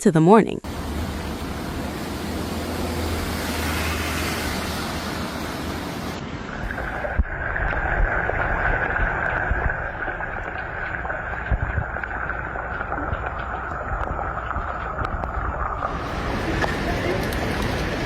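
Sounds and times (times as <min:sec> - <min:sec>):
floodwater rushing: 0:00.6 - 0:18.0.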